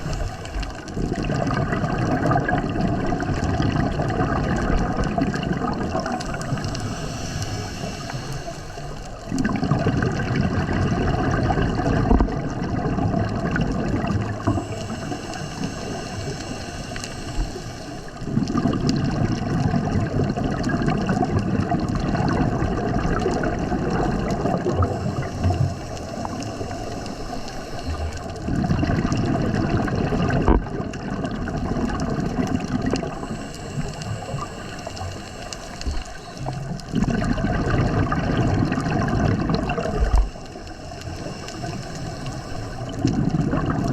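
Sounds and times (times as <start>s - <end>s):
underwater regulator bubbles: 0.0s - 43.9s.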